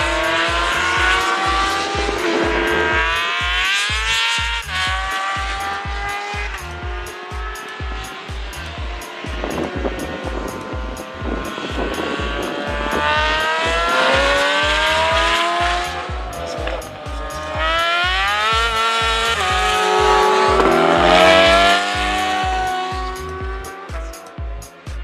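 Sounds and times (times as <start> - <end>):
background music with beat: 0.0 - 25.0
racing engines revving: 0.0 - 25.0.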